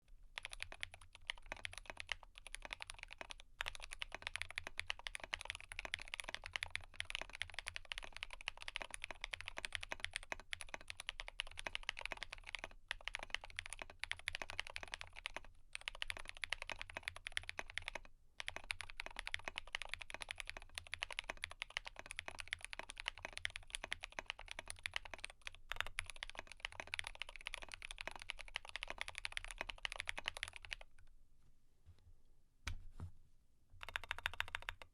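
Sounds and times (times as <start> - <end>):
mechanical keyboard typing: 0.4 - 30.9, 33.8 - 34.9.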